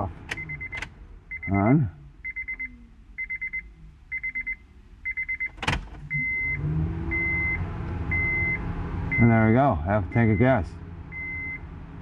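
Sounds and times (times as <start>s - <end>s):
plain beep: 0.4s - 9.4s, 10.1s - 11.6s
car warning chime: 0.4s - 9.5s, 10.1s - 11.6s.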